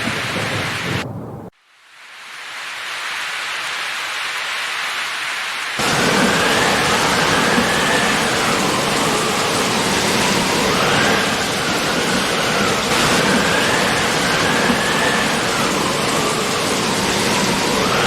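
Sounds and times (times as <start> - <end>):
heavy rainfall: 0.0 - 18.0.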